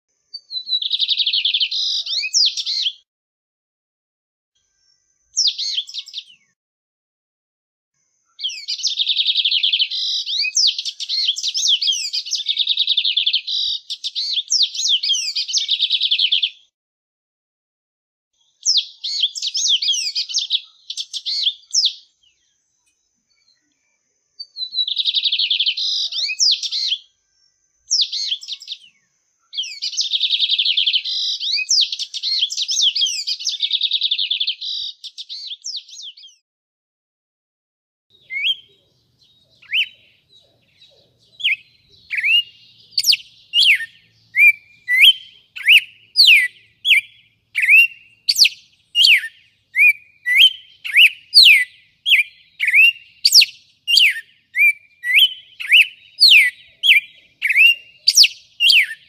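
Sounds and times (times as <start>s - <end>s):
bird twittering trills: 4.8s - 6.5s, 8.4s - 16.6s, 18.6s - 23.7s, 24.4s - 36.4s, 38.1s - 59.0s.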